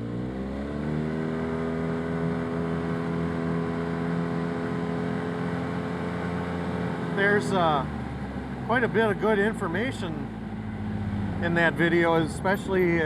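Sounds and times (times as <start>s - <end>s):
utility vehicle engine droning: 0.0s - 13.0s.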